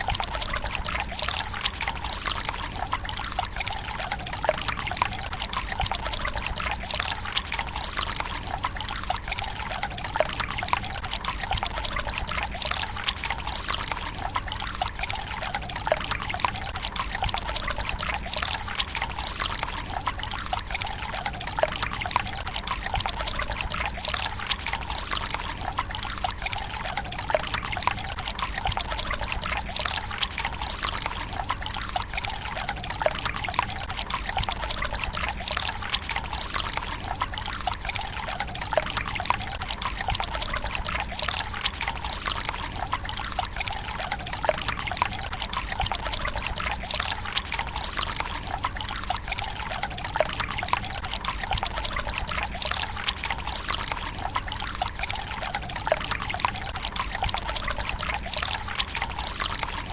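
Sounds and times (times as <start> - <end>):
water trickling into stone basin: 0.0 - 59.9.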